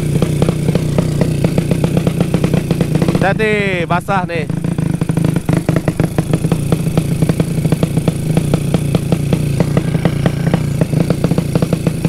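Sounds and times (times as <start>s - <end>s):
motorcycle chopping exhaust: 0.0s - 12.0s.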